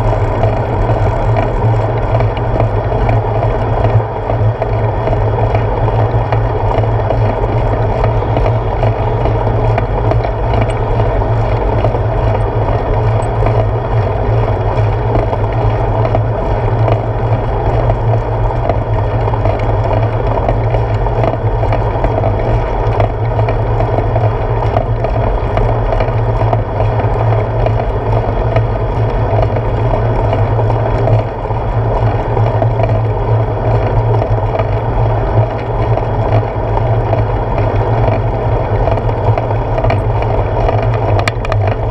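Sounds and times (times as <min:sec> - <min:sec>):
bicycle tyre rolling on asphalt: 0:00.0 - 0:41.9.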